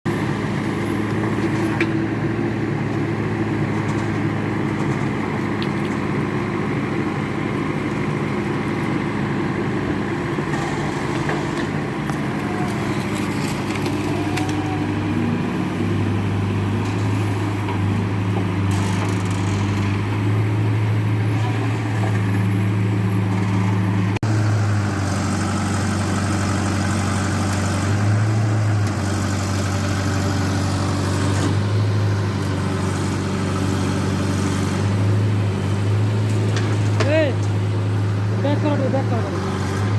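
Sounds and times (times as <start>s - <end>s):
diesel engine revving: 0.1s - 39.9s.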